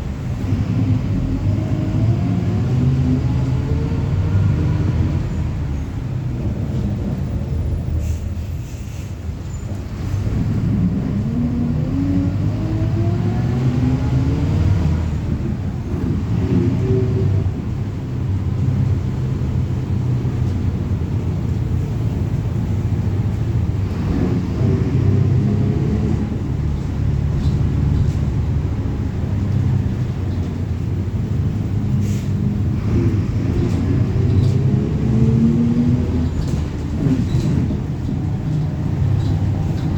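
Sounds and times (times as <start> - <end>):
bus diesel engine pulling away: 0.0 - 39.9.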